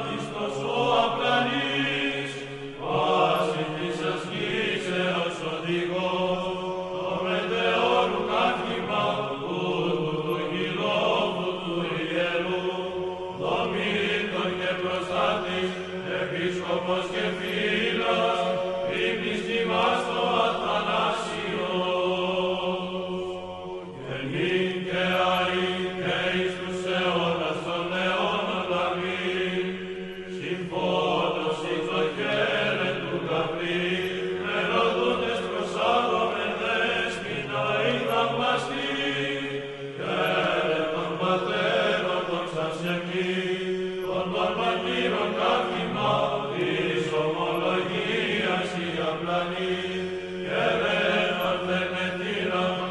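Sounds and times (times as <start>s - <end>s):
choir chanting over drone: 0.0s - 52.9s.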